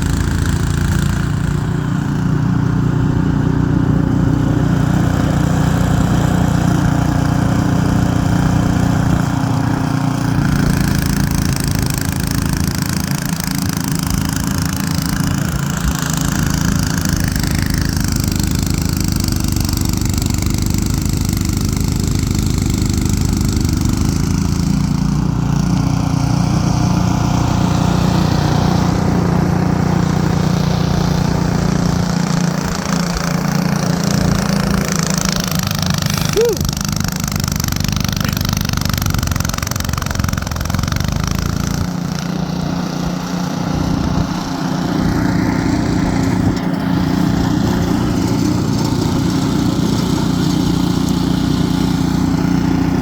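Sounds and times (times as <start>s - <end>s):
snowblower engine running: 0.0s - 53.0s.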